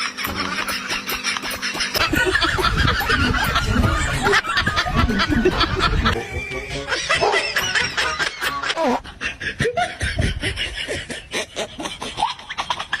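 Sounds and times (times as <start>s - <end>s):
laughter in bursts: 0.0s - 13.0s.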